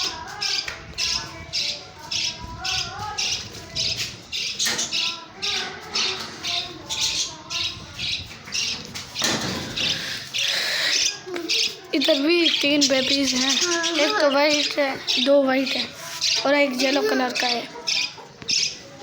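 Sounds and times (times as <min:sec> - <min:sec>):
parrots chattering and squawking: 0:00.0 - 0:19.0.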